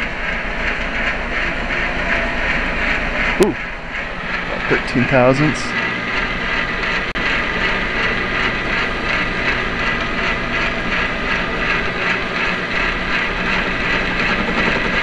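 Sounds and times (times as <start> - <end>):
metal lathe whirring: 0.0 - 15.0.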